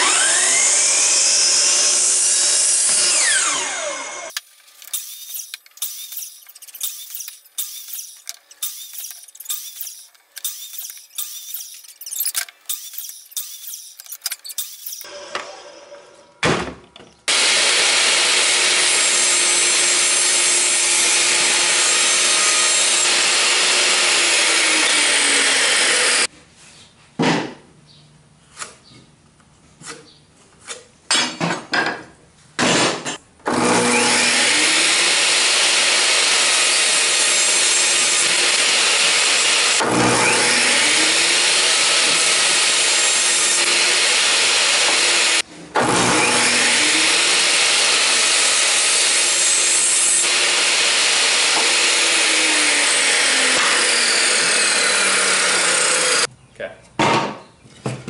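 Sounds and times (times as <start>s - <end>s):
electric saw cutting wood: 0.0s - 16.1s, 17.3s - 26.3s, 33.5s - 56.3s
table saw cutting boards: 0.0s - 16.1s, 17.3s - 26.3s, 32.7s - 56.3s.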